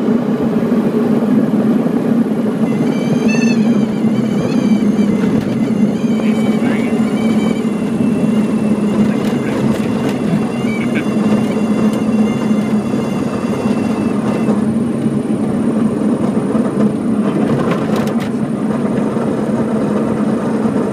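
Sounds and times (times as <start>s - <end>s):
airplane engine and propeller drone: 0.0s - 20.9s.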